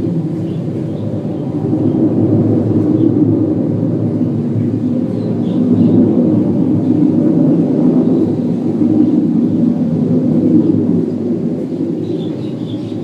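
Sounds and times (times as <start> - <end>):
low droning rumble from sky: 0.0 - 13.0.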